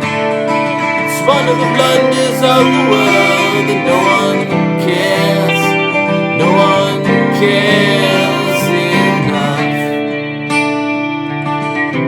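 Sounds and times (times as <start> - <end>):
instrumental rock song with guitars: 0.0 - 12.0.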